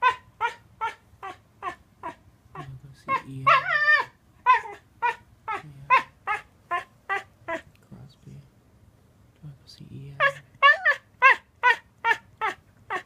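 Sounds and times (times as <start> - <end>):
dog howling and yelping: 0.0 - 7.7, 10.2 - 13.0.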